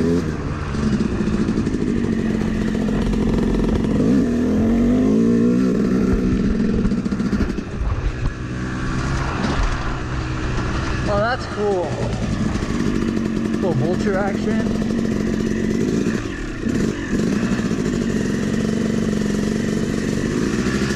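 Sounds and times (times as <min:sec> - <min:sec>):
two-stroke dirt bike engine revving: 0:00.0 - 0:20.9.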